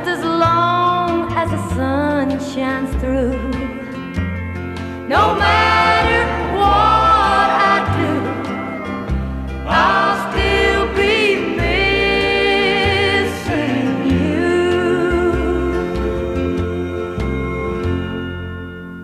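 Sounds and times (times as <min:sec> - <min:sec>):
slow country song with singing: 0:00.0 - 0:18.8.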